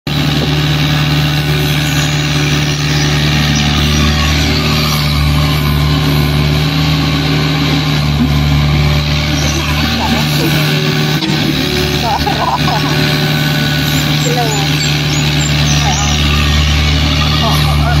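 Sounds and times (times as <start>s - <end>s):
excavator diesel engine drone: 0.0s - 18.0s.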